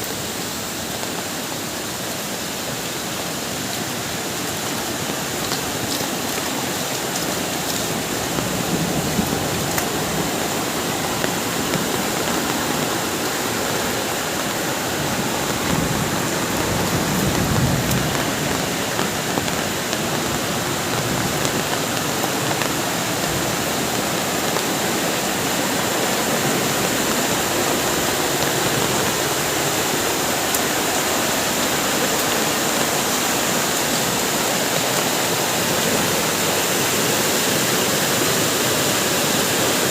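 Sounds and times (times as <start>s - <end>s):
heavy rain pouring: 0.0s - 39.9s
strong wind: 3.7s - 39.9s.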